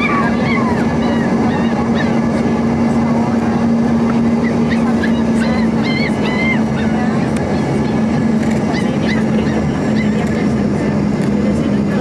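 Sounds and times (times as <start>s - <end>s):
jet cabin engine rush: 0.0s - 12.0s.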